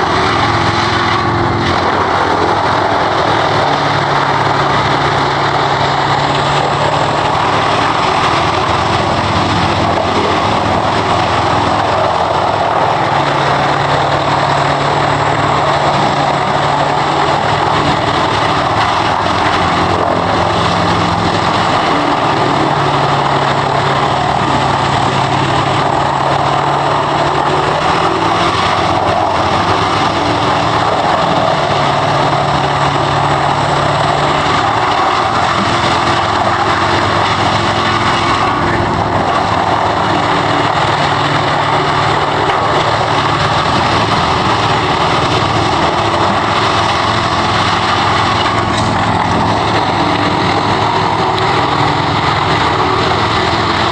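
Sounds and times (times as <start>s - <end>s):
continuous rushing noise: 0.0s - 53.9s
wood chipper engine running: 0.0s - 53.9s.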